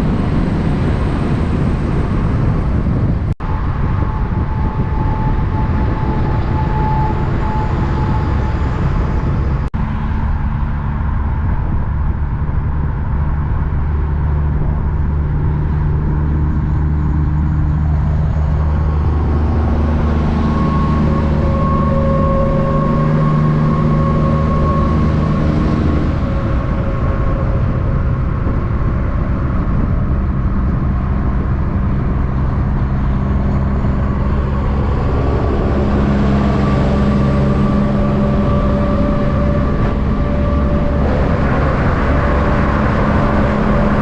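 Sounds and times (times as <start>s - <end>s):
truck engine droning: 0.0s - 44.0s.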